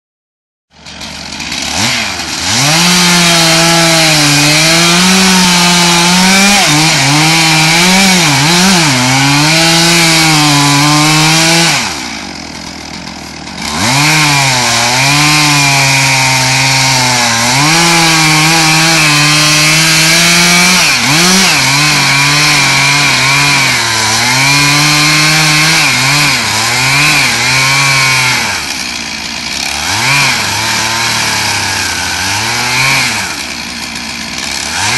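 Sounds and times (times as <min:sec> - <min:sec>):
chainsaw cutting wood: 0:00.7 - 0:34.9.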